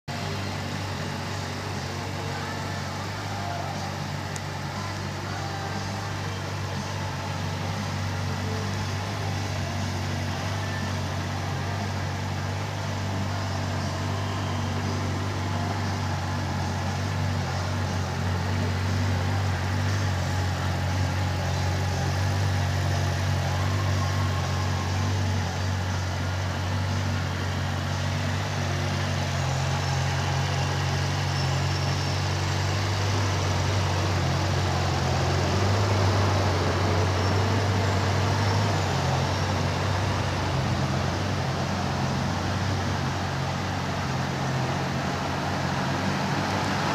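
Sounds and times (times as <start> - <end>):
motorcycle engine idling: 0.1 - 46.9.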